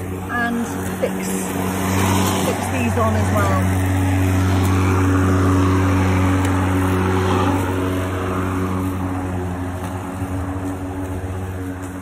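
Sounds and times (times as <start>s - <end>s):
electric lawnmower humming: 0.0s - 12.0s.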